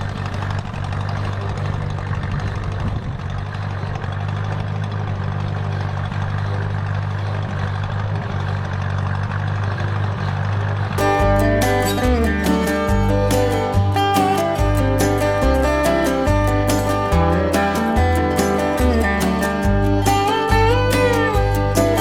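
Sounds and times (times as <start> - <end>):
tractor engine running steadily: 0.0 - 22.0.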